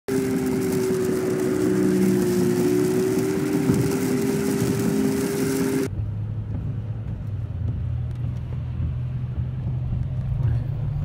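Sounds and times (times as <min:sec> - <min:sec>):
steady whine: 0:00.1 - 0:10.9
low engine drone: 0:00.1 - 0:11.0
road and wind hiss: 0:00.1 - 0:11.0.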